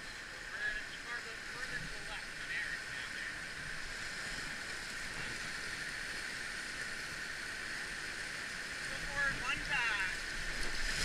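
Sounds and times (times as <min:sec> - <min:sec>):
whitewater rapids rushing: 0:00.2 - 0:11.0.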